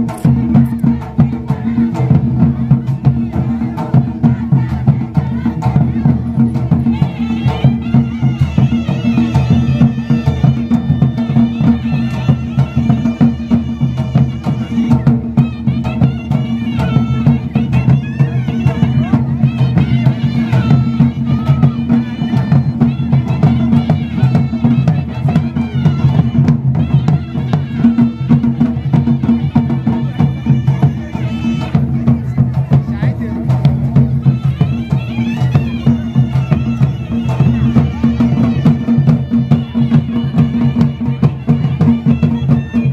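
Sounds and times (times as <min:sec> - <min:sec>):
high folk melody: 0:00.0 - 0:42.9
steady drumming: 0:00.0 - 0:42.9.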